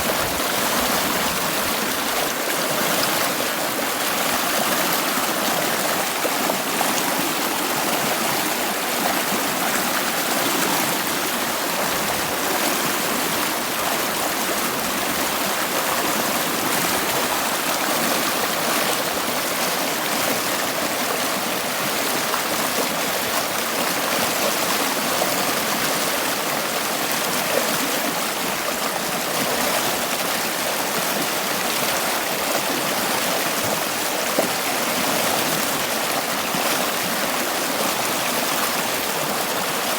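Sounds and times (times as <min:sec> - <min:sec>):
stream water rushing and babbling: 0:00.0 - 0:39.9.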